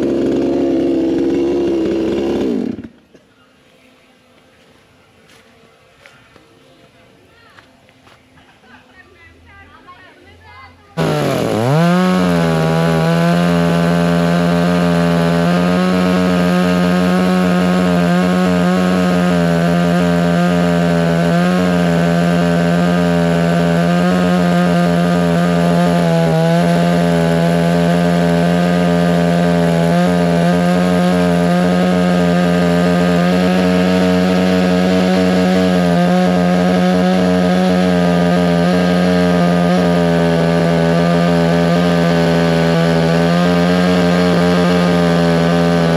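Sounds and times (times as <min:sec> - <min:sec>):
chainsaw cutting wood: 0:00.0 - 0:03.2, 0:11.0 - 0:45.9.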